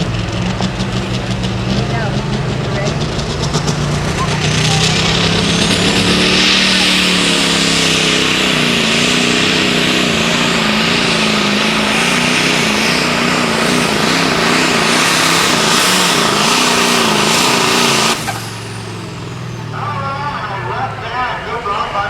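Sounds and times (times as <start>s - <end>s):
diesel engine under full load: 0.0s - 22.0s
strong engine hiss: 0.0s - 22.0s.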